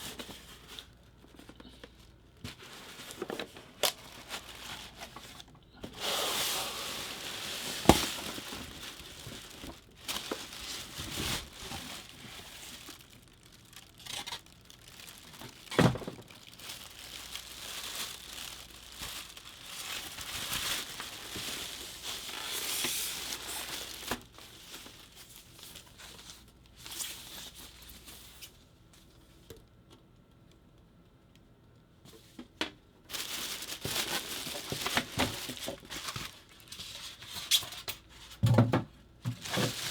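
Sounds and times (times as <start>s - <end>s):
packaging crinkling and tearing: 0.0s - 28.6s, 33.1s - 38.1s, 39.3s - 39.9s.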